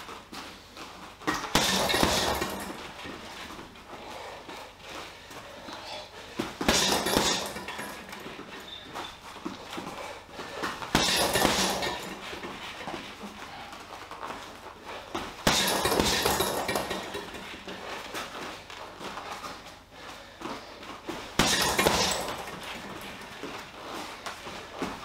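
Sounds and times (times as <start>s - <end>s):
footwork: 0.0s - 25.0s
gloves punching heavy bag: 1.2s - 4.7s, 6.3s - 19.7s, 21.1s - 25.0s.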